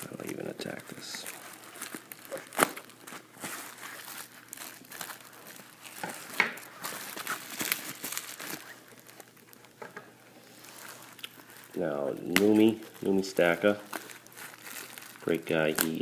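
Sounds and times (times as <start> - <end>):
bubble wrap and tape crinkling: 0.0 - 16.0.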